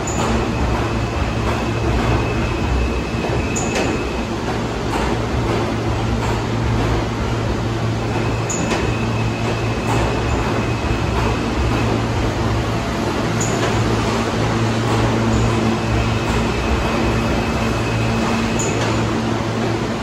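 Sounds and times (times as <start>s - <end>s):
subway train hum and rumble: 0.0s - 20.0s.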